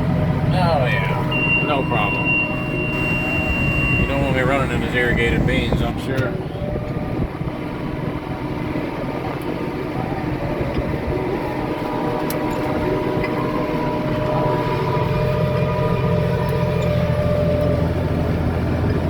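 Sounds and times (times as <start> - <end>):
steady whine: 0.0 - 19.0
tractor engine running: 0.0 - 19.0.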